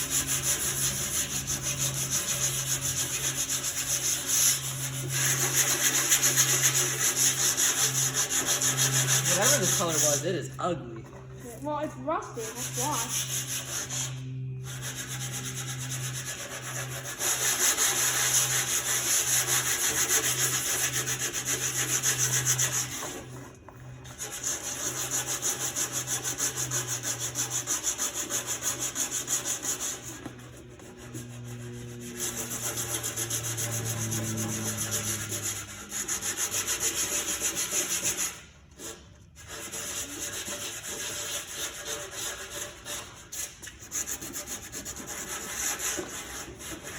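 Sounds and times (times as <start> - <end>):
sandpaper scuffing rusty metal: 0.0 - 10.5, 11.7 - 23.4, 24.1 - 46.9.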